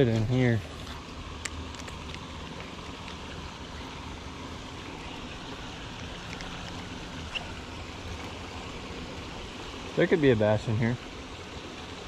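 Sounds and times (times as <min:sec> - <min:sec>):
small waterfall into pool: 0:00.0 - 0:12.0.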